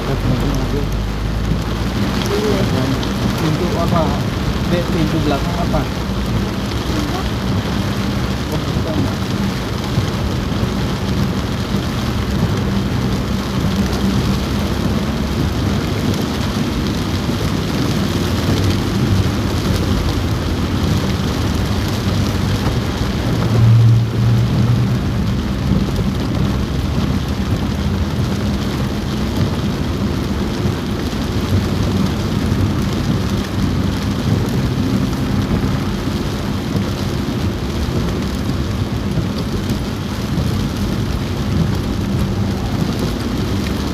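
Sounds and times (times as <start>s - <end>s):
heavy rain on a car roof: 0.0s - 43.9s
low car drone: 0.0s - 43.9s.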